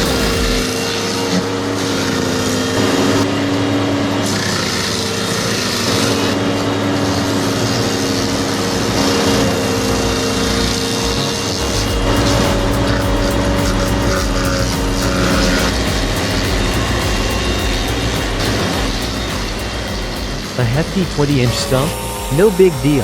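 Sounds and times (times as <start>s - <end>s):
machine engine running: 0.0s - 23.0s.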